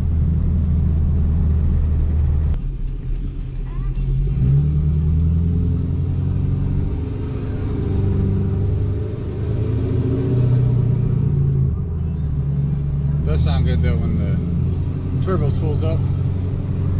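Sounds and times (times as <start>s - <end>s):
diesel engine low rumble: 0.0s - 16.9s
road noise: 0.0s - 16.9s.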